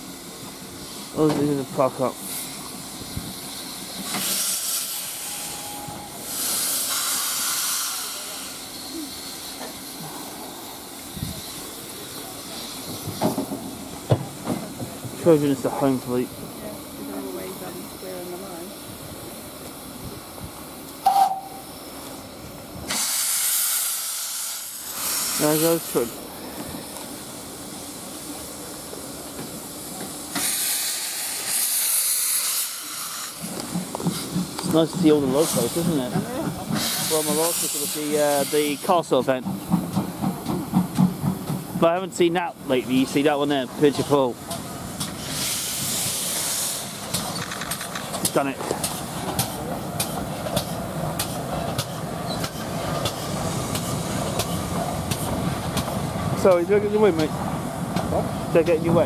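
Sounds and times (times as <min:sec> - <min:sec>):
loud hiss of steam: 0:00.0 - 0:59.0
steam locomotive rumbling: 0:00.0 - 0:59.0.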